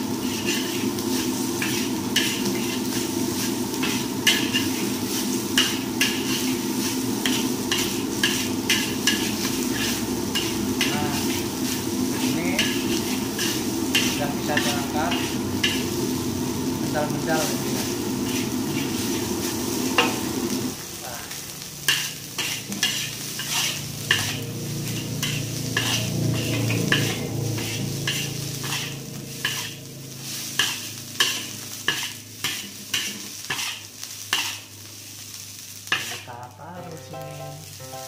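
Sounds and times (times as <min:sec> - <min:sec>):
food sizzling: 0:00.0 - 0:38.0
metal spatula scraping a wok: 0:00.1 - 0:16.0, 0:17.3 - 0:20.2, 0:21.9 - 0:36.3.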